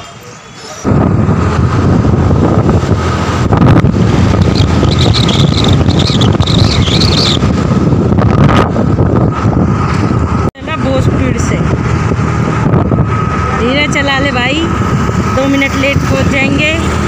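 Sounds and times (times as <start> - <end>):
scooter motor and road noise: 0.0 - 17.0
wind buffeting microphone: 0.8 - 17.0.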